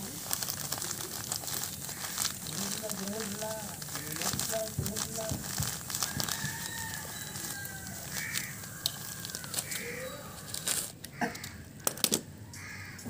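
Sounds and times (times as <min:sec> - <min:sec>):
plastic sachet rustling: 0:00.0 - 0:12.1
crows cawing: 0:00.6 - 0:13.0.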